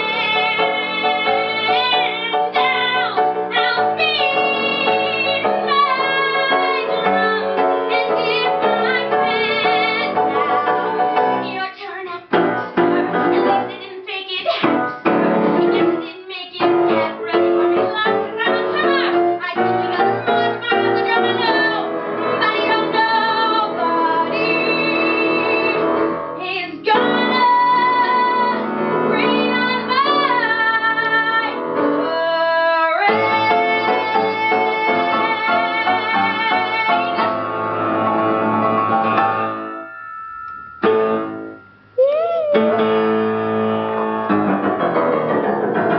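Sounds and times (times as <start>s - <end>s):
woman singing with vibrato: 0.0s - 14.8s, 15.6s - 25.8s, 26.4s - 37.2s, 42.0s - 43.2s
grand piano: 0.0s - 45.9s.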